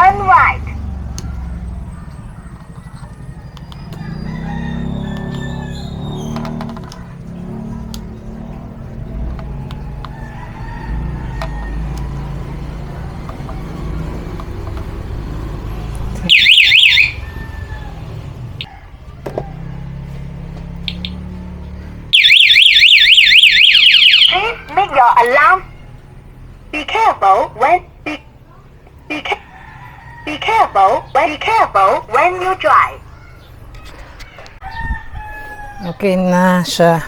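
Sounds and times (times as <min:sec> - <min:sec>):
motorcycle alarm siren warbling: 0:00.0 - 0:28.1, 0:28.9 - 0:33.8.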